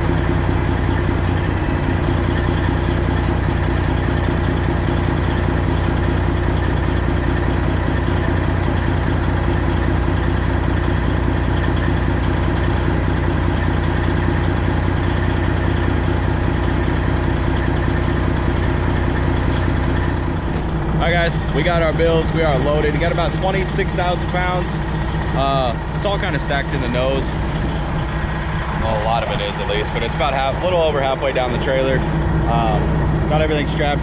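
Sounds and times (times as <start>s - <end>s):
diesel truck idling: 0.0s - 34.0s.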